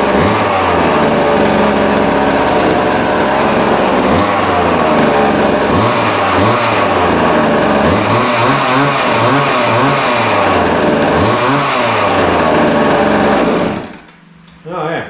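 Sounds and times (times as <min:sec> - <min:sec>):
chainsaw revving: 0:00.0 - 0:14.1.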